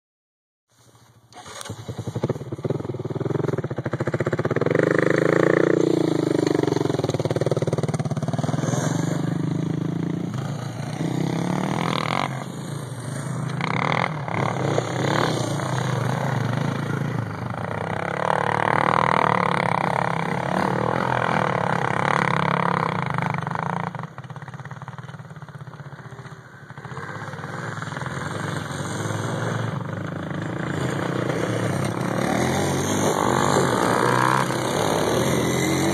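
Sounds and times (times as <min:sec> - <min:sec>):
quad engine revving: 0:01.4 - 0:24.6, 0:25.7 - 0:35.9.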